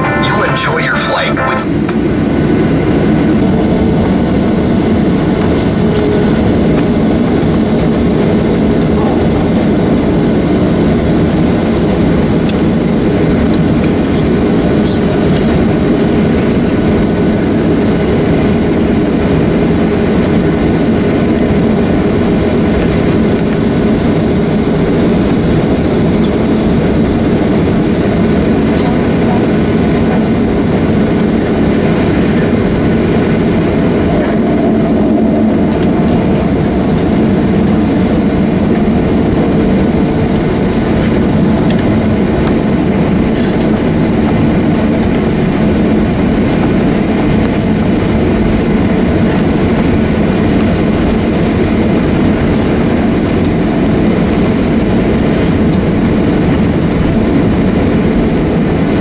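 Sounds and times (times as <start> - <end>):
jet engines low rumble: 0.0 - 59.0.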